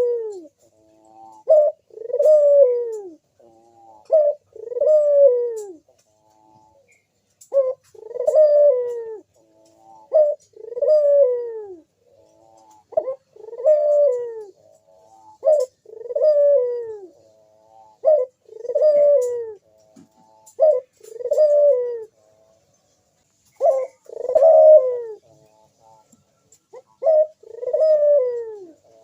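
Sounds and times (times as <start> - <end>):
dove cooing: 0.0 - 22.7, 23.5 - 29.0.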